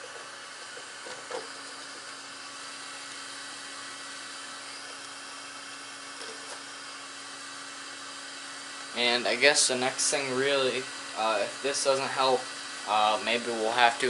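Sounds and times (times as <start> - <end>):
small electric fan whirring: 0.0 - 14.0.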